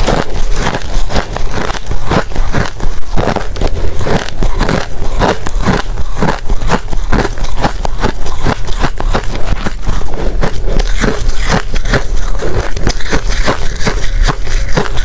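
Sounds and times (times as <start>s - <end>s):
chewing ice crunches: 0.0s - 15.0s.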